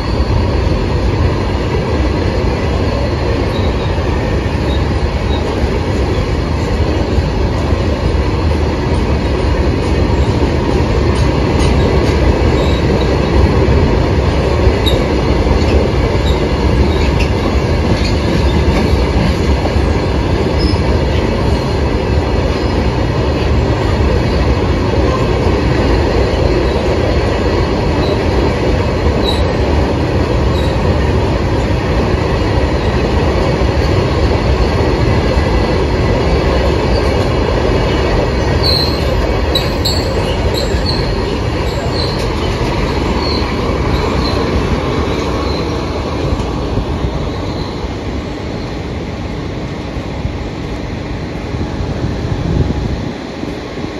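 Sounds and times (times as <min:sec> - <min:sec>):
train wheels clattering on rail: 0:00.0 - 0:53.9.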